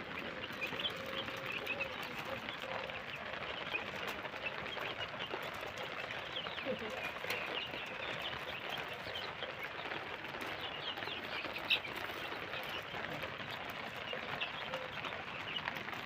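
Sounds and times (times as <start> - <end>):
chickens chirping and peeping: 0.0 - 16.0.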